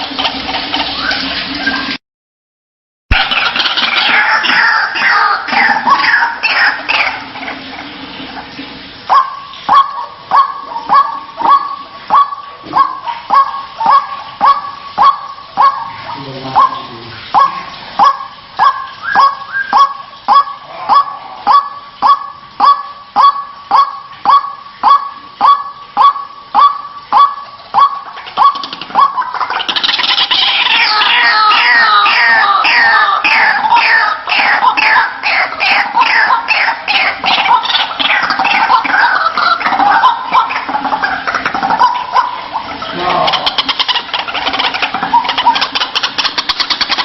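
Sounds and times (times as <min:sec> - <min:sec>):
waterhen calling: 0:00.0 - 0:02.0, 0:03.1 - 0:47.0.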